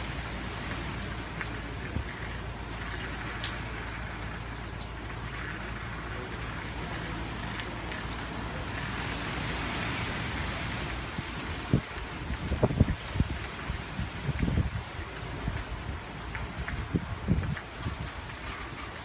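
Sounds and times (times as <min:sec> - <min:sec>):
heavy rain hissing: 0:00.0 - 0:19.0
wind: 0:00.0 - 0:19.0.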